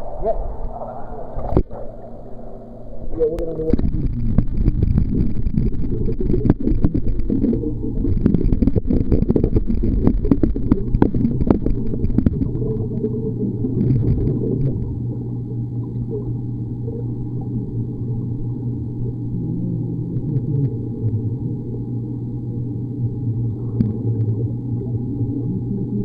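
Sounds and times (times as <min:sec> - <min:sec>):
muffled underwater rumble: 0:00.0 - 0:26.0
underwater splashing crackles: 0:03.7 - 0:19.4, 0:20.1 - 0:26.0.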